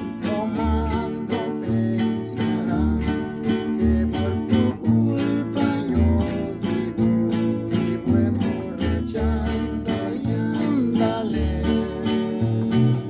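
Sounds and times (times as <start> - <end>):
bass line: 0.0 - 13.0
strummed guitars: 0.0 - 13.0.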